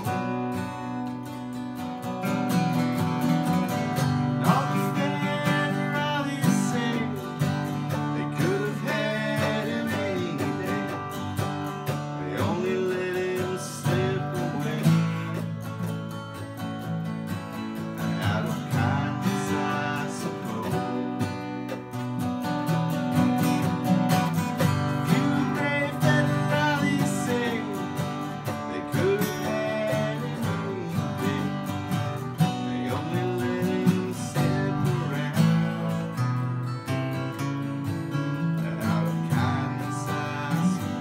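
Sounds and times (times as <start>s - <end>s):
acoustic guitars strummed: 0.0s - 41.0s
sliding guitar melody: 0.0s - 41.0s.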